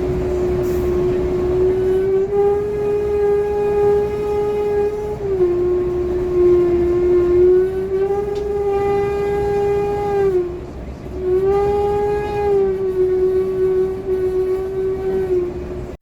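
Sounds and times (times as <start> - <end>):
bus squealing: 0.0 - 16.0.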